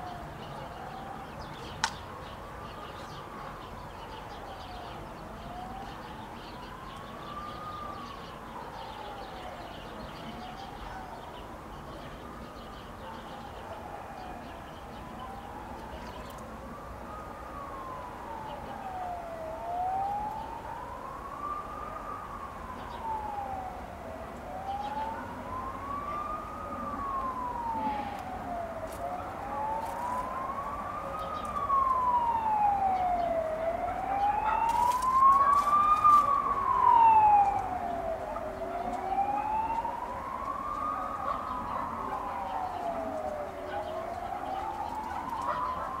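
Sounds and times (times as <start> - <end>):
siren wailing: 0.0 - 1.7, 2.6 - 11.0, 13.3 - 46.0.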